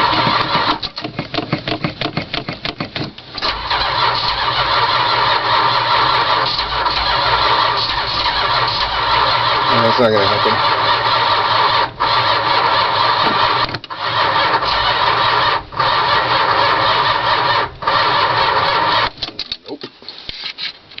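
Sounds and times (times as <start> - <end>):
engine sputters: 0.0 - 19.3
starter cranking engine: 0.0 - 19.3.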